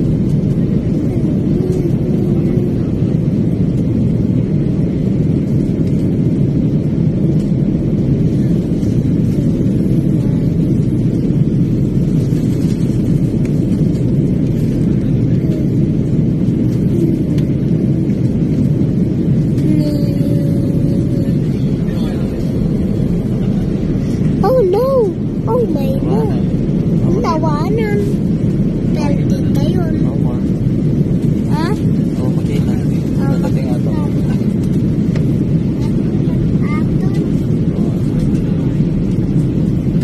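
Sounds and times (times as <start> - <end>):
airliner cabin engine noise: 0.0 - 40.0.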